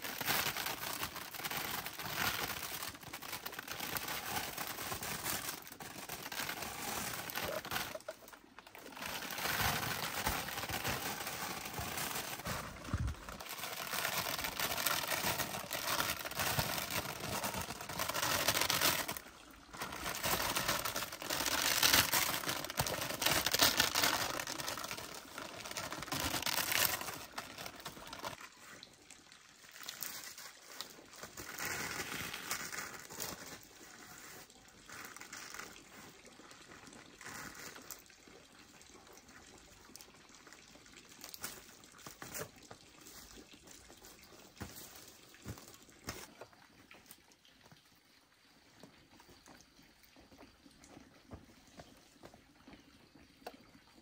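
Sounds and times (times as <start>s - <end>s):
rustling and crinkling handling noise: 0.0s - 38.1s, 41.1s - 46.6s.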